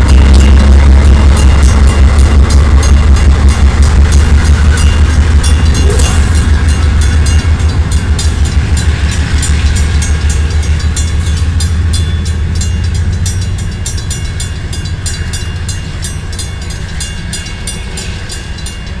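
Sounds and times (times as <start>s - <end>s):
crossing bell ringing: 0.0s - 19.0s
diesel locomotive engine rumble: 0.0s - 19.0s.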